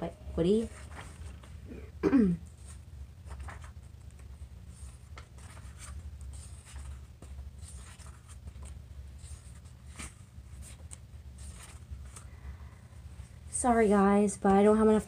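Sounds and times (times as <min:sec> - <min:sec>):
steady low hum: 0:00.0 - 0:15.0
rustling and scraping handling noise: 0:00.3 - 0:15.0.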